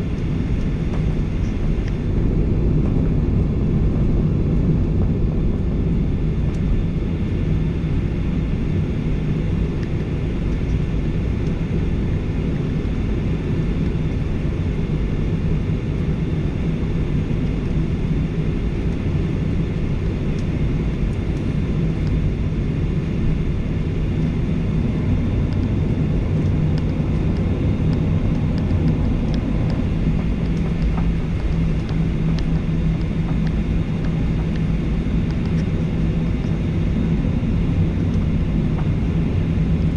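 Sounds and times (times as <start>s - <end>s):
airplane cabin jet engine hum: 0.0s - 39.9s.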